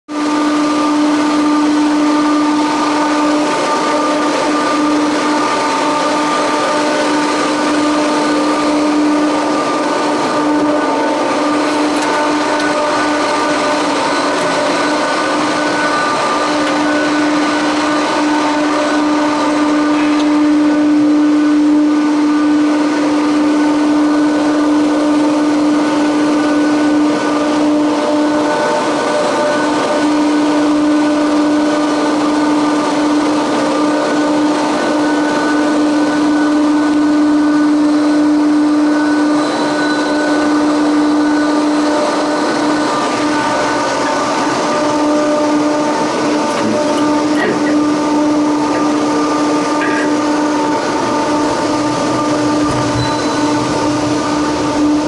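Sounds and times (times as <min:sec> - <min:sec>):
gondola machinery humming: 0:00.1 - 0:55.0
high whining tones: 0:00.2 - 0:55.0.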